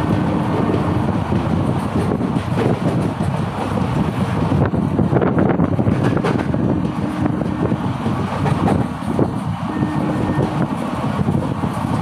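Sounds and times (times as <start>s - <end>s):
train wheels rumbling on rails: 0.0s - 12.0s
wind buffeting microphone: 0.0s - 12.0s.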